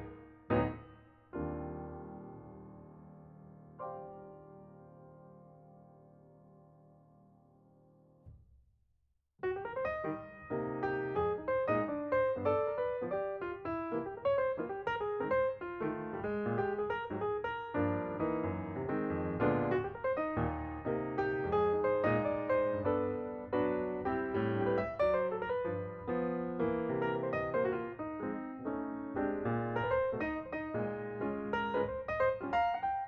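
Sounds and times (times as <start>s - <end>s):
piano music: 0.0s - 8.0s, 9.4s - 33.0s.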